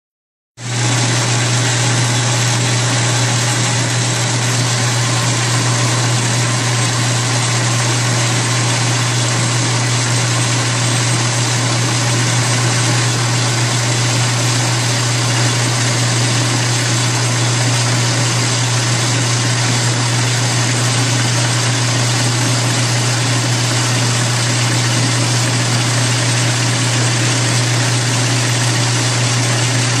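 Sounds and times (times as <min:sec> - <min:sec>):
metal lathe humming: 0:00.7 - 0:30.0.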